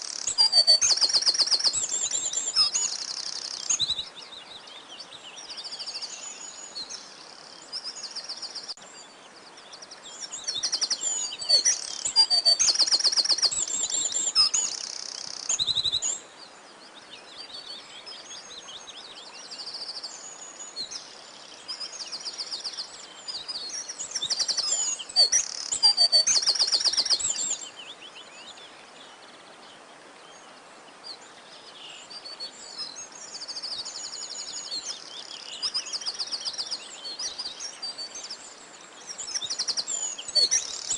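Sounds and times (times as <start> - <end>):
faint steady hiss: 0.0 - 40.9
songbirds singing: 0.0 - 40.9.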